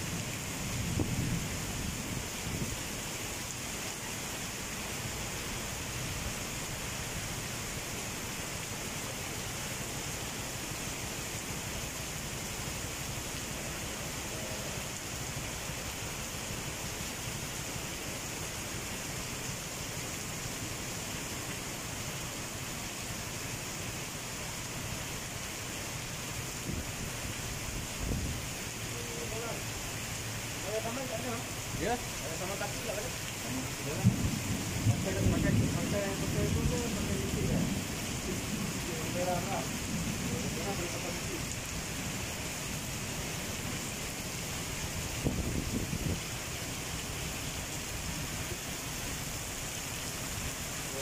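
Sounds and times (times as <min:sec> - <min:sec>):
heavy rain on pavement: 0:00.0 - 0:51.0.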